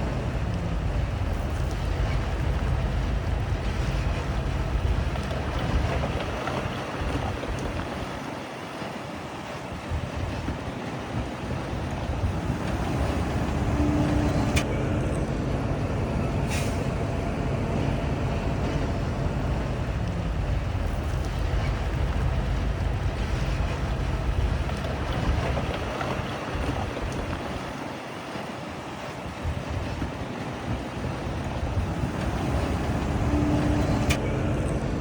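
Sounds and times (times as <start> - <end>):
heavy diesel machinery rumbling: 0.0 - 35.0.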